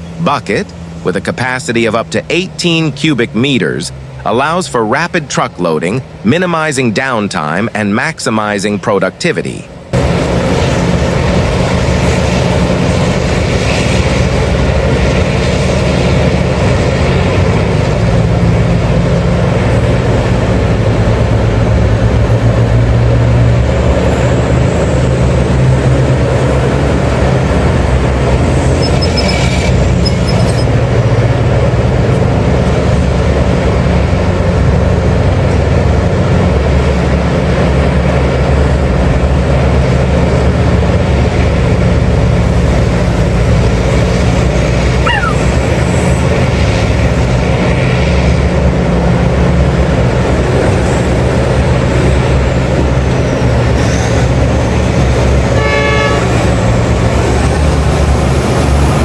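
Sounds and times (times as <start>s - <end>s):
heavy diesel machinery drone: 0.0s - 59.0s.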